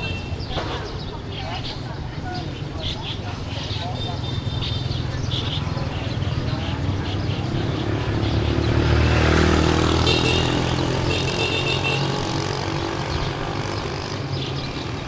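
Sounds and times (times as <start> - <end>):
motorbike passing: 0.0 - 15.0.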